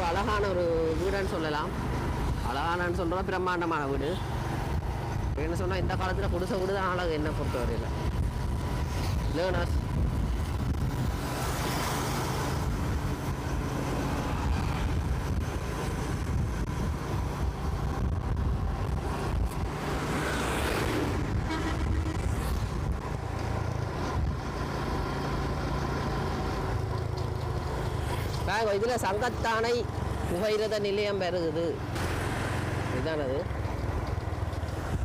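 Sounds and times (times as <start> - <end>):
traffic passing: 0.0 - 35.0
wind and road noise: 0.0 - 35.0.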